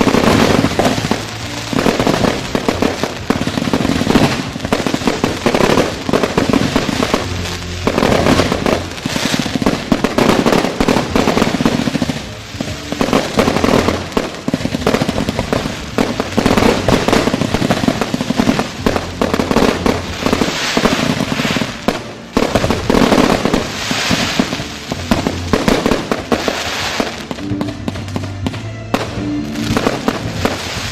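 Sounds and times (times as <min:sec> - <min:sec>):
fireworks bangs and crackles: 0:00.0 - 0:30.9
music playing: 0:00.0 - 0:30.9.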